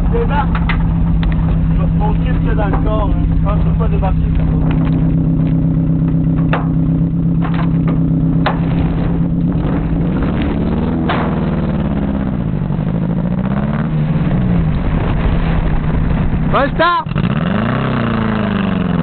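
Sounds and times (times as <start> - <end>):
engine idling and revving: 0.0 - 19.0.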